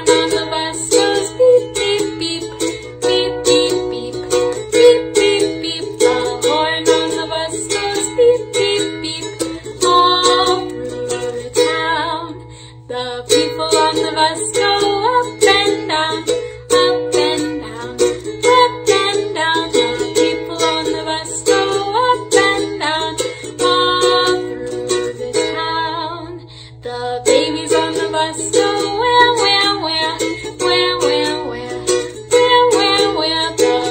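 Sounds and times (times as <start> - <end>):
string instrument strummed: 0.0 - 33.9.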